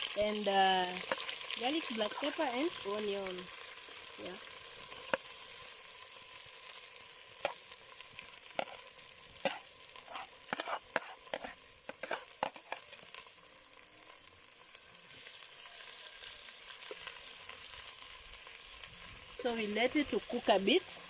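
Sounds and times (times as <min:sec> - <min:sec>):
onion and garlic sizzling in oil: 0:00.0 - 0:21.0.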